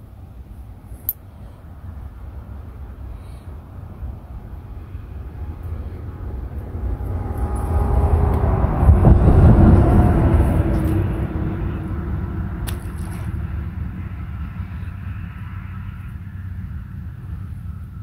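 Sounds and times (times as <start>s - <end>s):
passing vehicle engine rumble: 0.0s - 18.0s.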